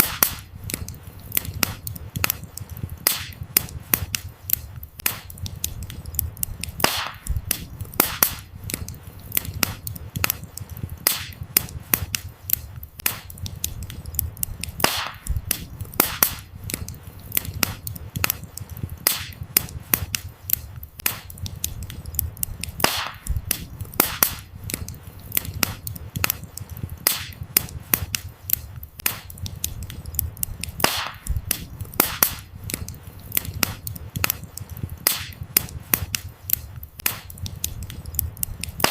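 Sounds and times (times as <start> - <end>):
firewood popping and snapping: 0.0 - 38.9
low rumble of flames: 0.0 - 38.9.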